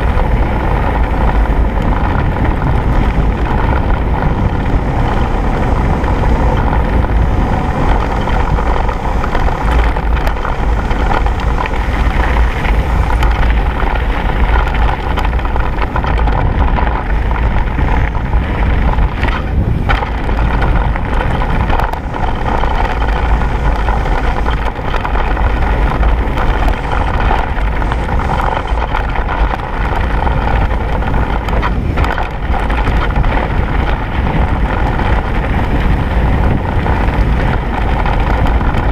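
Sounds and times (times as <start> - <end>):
bike tyres on gravel: 0.0 - 38.9
wind on microphone: 0.0 - 38.9.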